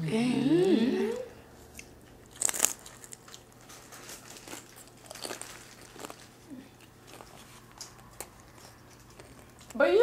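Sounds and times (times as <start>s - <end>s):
chewing crisp taco shells: 1.6s - 9.8s.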